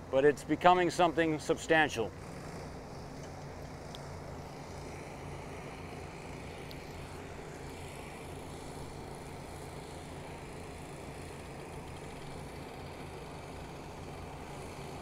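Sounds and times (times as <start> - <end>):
low drone of running engines: 0.0 - 15.0.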